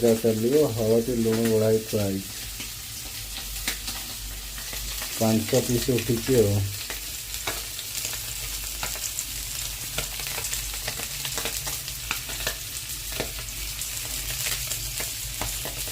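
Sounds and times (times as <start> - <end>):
fish sizzling in hot oil: 0.0 - 15.9
oil crackling and popping: 0.0 - 15.9.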